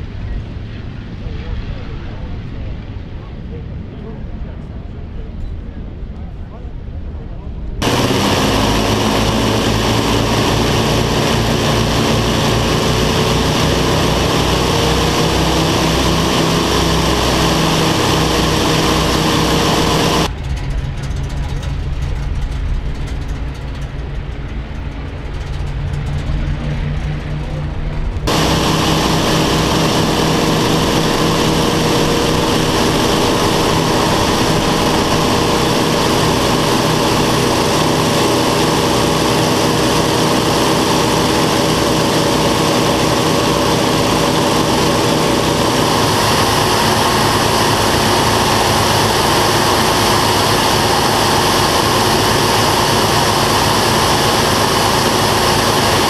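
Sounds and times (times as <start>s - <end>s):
cockpit engine and airflow drone: 7.4s - 56.0s
aircraft engines droning: 7.6s - 56.0s.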